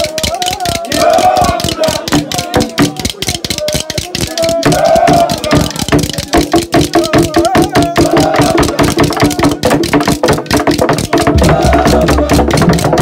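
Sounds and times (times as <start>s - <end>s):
fast percussion: 0.0s - 13.0s.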